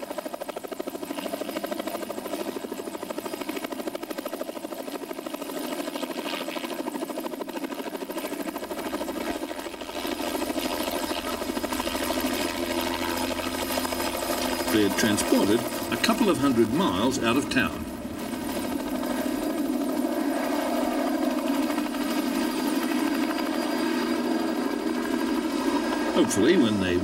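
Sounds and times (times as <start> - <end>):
helicopter rotor beating: 0.0 - 27.0.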